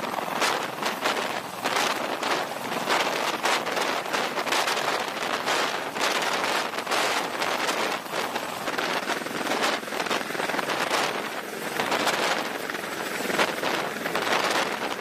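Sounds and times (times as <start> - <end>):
helicopter rotor roar: 0.0 - 15.0
wind buffeting microphone: 0.0 - 15.0.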